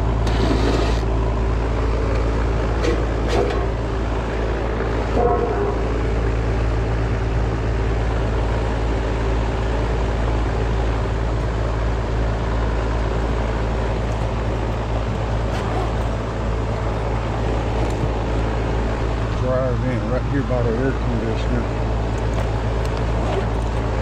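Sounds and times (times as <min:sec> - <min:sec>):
air conditioner unit humming: 0:00.0 - 0:24.0.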